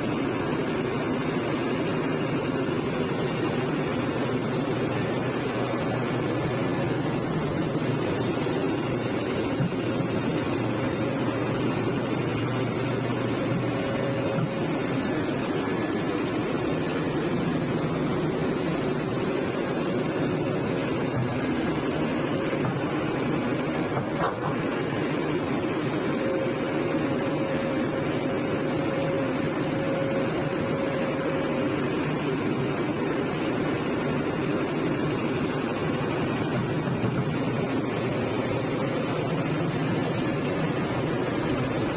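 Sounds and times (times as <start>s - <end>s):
excavator diesel engine running: 0.0s - 41.9s
thin steady whine: 0.0s - 41.9s.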